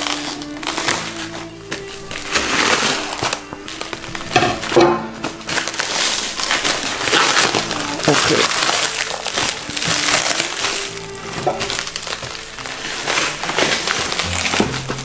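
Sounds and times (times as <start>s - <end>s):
background music: 0.0s - 15.0s
plastic mailer bag crinkling and tearing: 0.0s - 15.0s.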